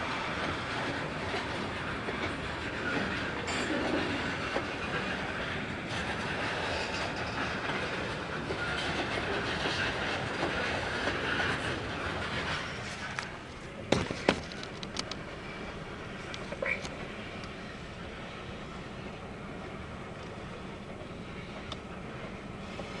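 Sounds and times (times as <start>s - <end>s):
diesel locomotives working: 0.0s - 23.0s
train rolling on rails: 0.0s - 23.0s.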